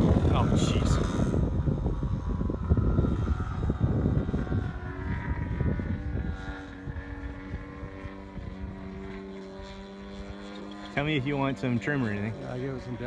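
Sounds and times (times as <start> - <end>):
model airplane engine running: 0.0 - 13.0
wind rumble on microphone: 0.0 - 13.0.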